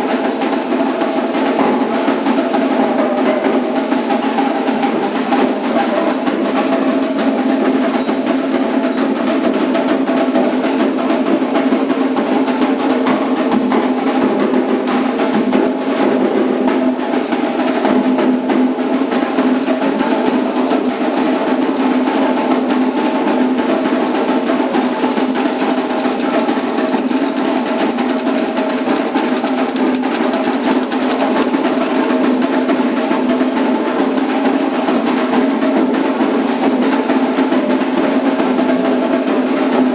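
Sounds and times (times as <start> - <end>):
hand drums drumming: 0.0 - 39.9.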